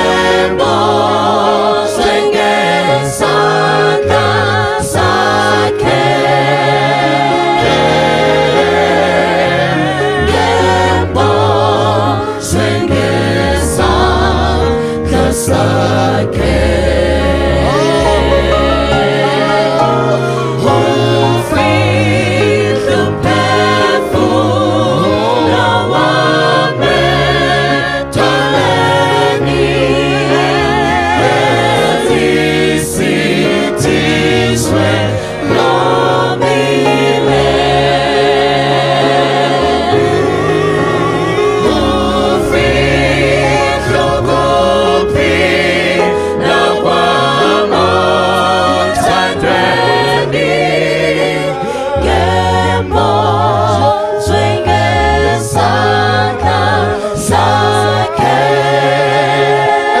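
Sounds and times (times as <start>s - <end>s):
gospel group singing in harmony: 0.0s - 60.0s.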